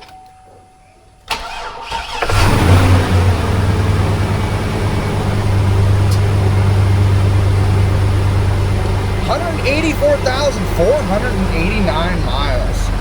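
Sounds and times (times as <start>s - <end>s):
car engine starting and idling: 1.2s - 13.0s.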